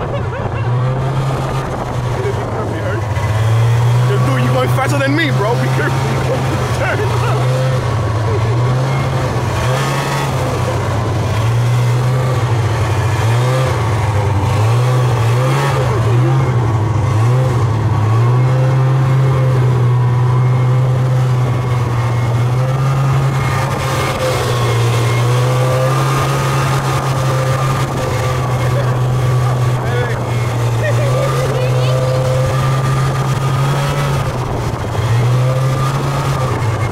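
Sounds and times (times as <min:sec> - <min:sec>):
snowmobile engine running: 0:00.0 - 0:36.9.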